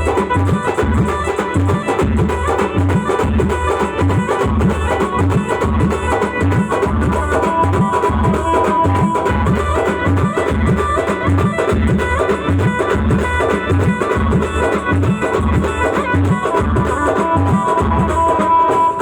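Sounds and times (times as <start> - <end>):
fast drum beat: 0.0 - 19.0
held melody line: 0.0 - 19.0.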